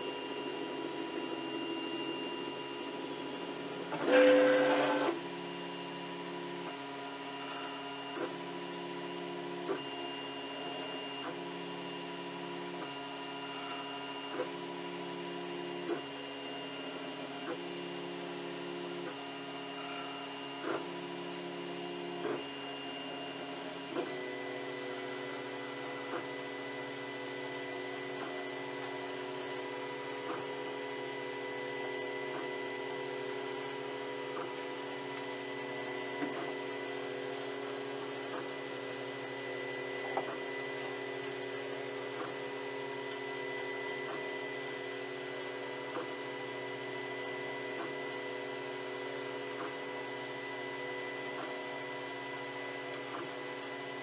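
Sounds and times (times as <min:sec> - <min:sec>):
printer machine whine: 0:00.0 - 0:54.0.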